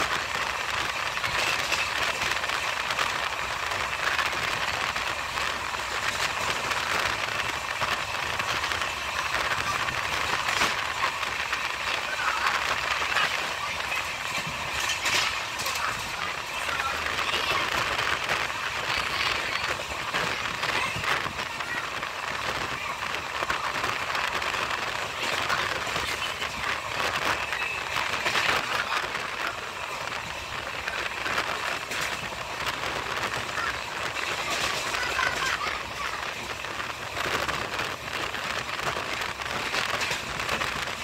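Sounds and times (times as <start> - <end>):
train wheels on rails: 0.0 - 41.0.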